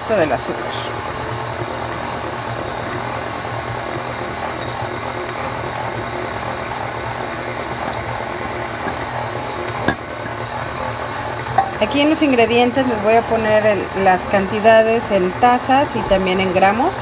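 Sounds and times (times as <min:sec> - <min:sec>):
electric mixer running: 0:00.0 - 0:17.0.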